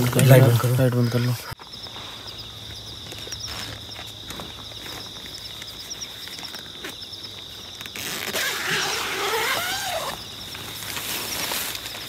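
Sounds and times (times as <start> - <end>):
high insect whine: 0.0 - 12.0
night insects trilling: 0.0 - 12.0.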